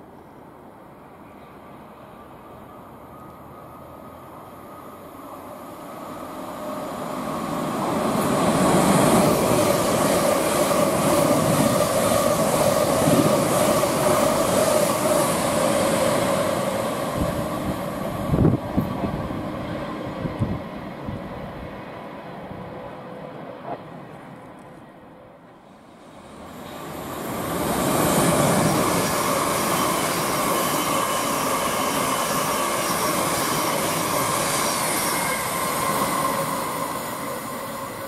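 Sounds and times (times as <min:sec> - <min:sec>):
electric train passing at speed: 0:00.0 - 0:38.0.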